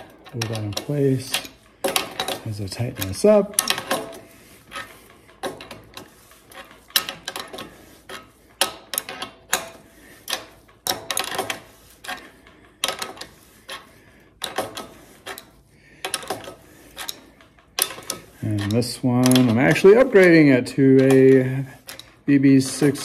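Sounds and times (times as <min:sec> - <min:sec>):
wrench clicking and clanking on metal: 0:00.0 - 0:23.0.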